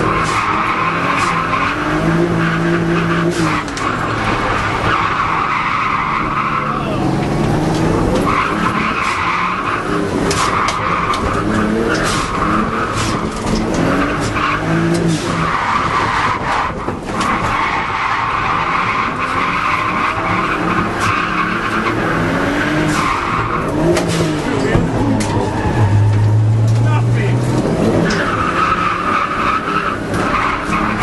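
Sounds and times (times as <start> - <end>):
car engine revving: 0.0 - 31.0
tyres squealing: 0.0 - 31.0.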